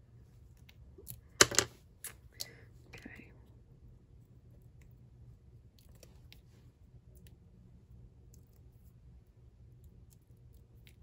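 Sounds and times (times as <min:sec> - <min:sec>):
quiet room hum: 0:00.0 - 0:11.0.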